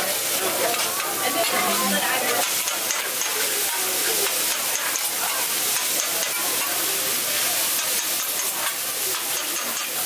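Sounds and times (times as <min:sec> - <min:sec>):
rice sizzling on a griddle: 0:00.0 - 0:10.0
metal spatula scraping and tapping: 0:00.7 - 0:10.0.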